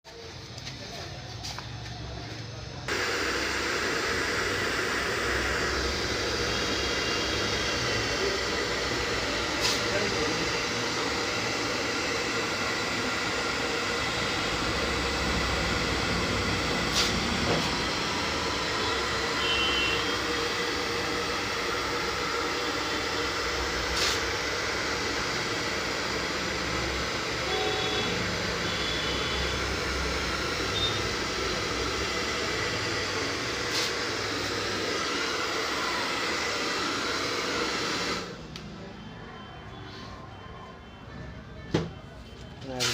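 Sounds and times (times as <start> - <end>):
hair dryer blowing: 2.9 - 38.7.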